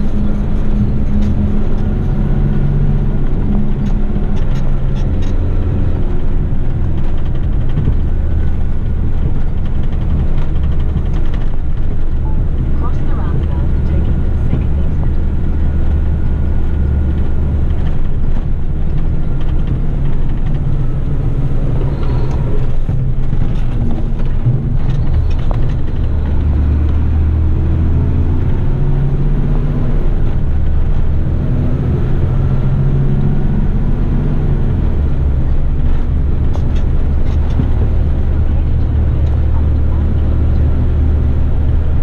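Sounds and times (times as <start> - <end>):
road noise: 0.0 - 42.0
truck diesel engine driving: 0.0 - 42.0.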